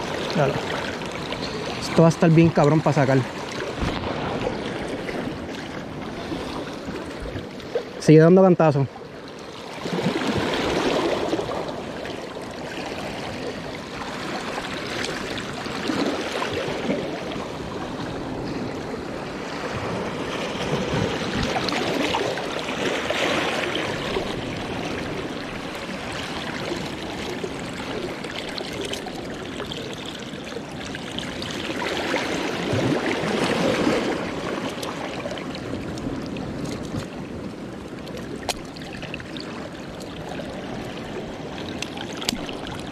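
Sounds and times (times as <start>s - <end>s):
small waves lapping over rocks: 0.0s - 42.9s.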